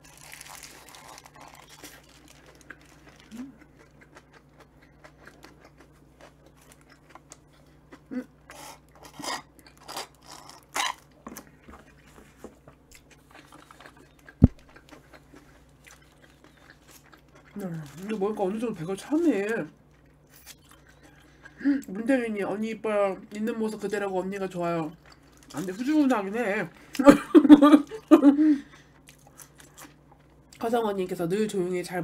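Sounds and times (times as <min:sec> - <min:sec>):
chewing a sandwich: 0:00.0 - 0:21.9, 0:24.5 - 0:26.2, 0:27.9 - 0:30.6.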